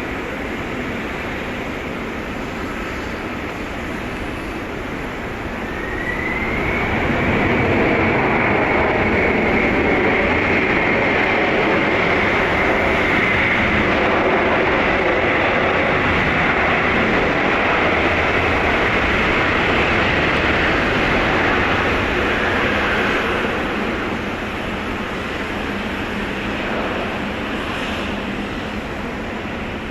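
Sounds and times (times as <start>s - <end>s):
jet engines rumbling and whining: 0.0s - 29.9s.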